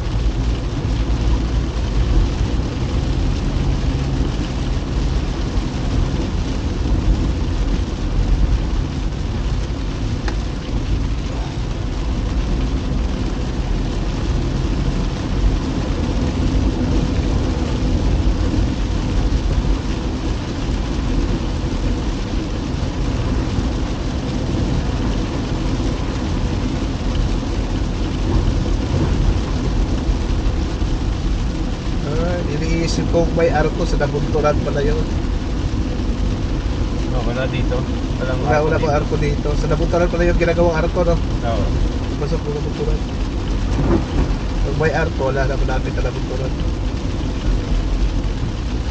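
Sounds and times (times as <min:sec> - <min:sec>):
car engine and tyre noise: 0:00.0 - 0:48.9
rain on car: 0:00.0 - 0:48.9.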